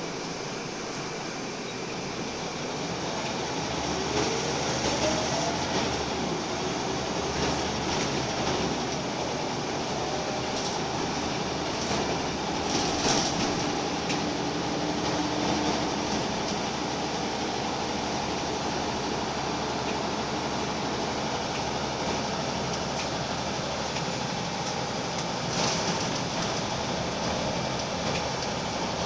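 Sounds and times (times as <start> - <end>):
bus engine whine: 0.0 - 29.0
road noise: 0.0 - 29.0.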